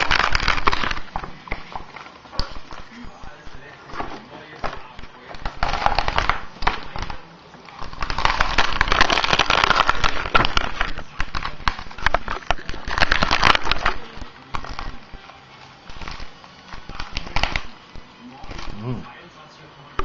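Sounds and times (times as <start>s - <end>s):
plastic sheets crinkling: 0.0s - 18.9s.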